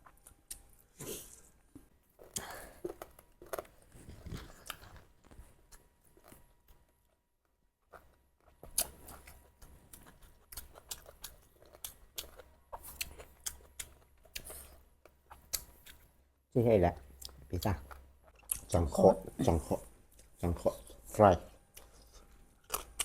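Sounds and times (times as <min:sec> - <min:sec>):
close-up chewing: 0:02.2 - 0:07.2, 0:07.8 - 0:16.2, 0:17.1 - 0:23.0.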